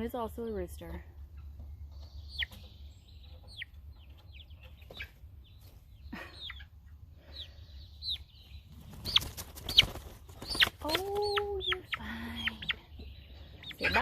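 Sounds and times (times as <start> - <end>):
low steady hum: 0.0 - 14.0
chicks peeping: 0.5 - 14.0.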